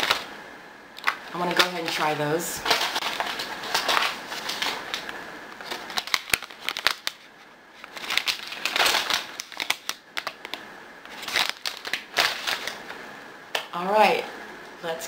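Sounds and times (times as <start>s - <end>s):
plastic snack bags crinkling: 0.0s - 0.3s, 1.0s - 13.0s.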